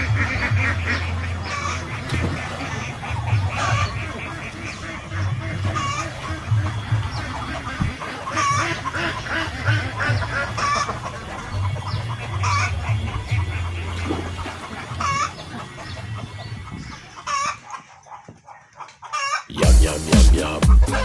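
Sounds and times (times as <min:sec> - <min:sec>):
poultry clucking: 0:00.0 - 0:21.0.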